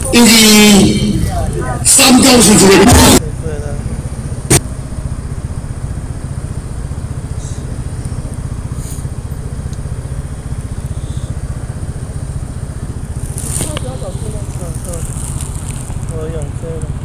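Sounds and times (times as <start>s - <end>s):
low rumble with uneven flutter: 0.0s - 17.0s.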